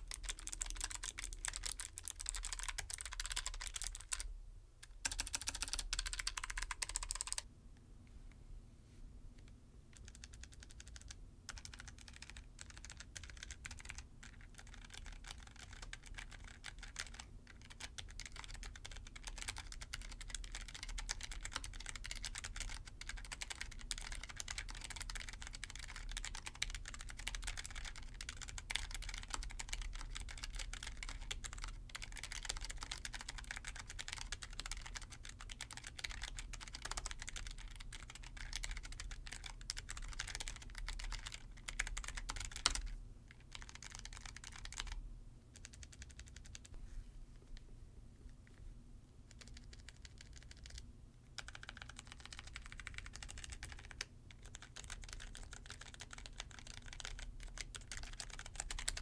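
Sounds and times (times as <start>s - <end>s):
fast typing on mechanical keyboard: 0.0s - 7.4s, 10.0s - 46.8s, 49.3s - 50.8s, 51.4s - 59.0s.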